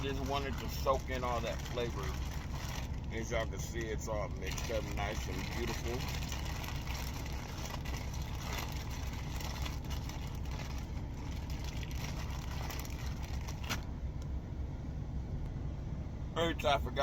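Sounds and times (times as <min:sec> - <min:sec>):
rustling and handling noises: 0:00.0 - 0:14.0
truck engine idling: 0:00.0 - 0:17.0.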